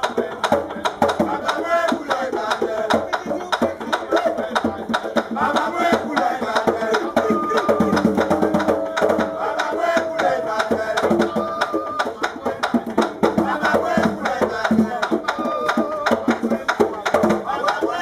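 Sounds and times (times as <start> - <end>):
hand drum: 0.0 - 18.0
person singing: 0.0 - 18.0.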